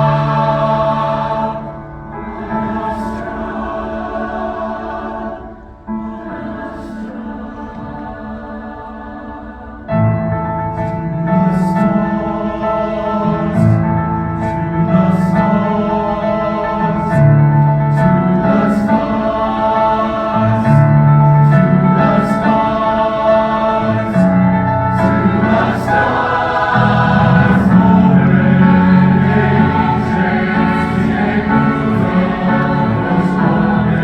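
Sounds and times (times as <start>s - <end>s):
choir singing: 0.0s - 34.0s.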